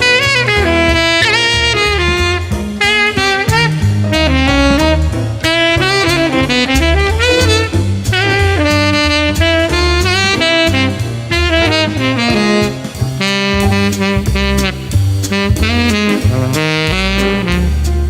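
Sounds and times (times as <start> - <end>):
jazz instrumental music: 0.0 - 18.0.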